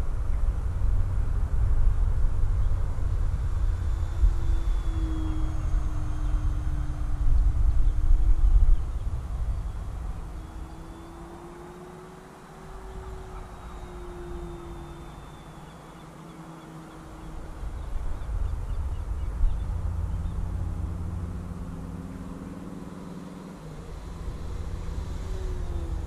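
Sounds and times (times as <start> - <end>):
low rumble on microphone: 0.0 - 12.0, 12.6 - 26.0
model plane motor buzzing: 2.2 - 26.0.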